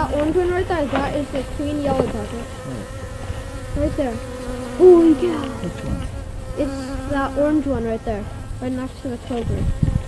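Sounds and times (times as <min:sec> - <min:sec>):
yellow jackets buzzing: 0:00.0 - 0:10.0.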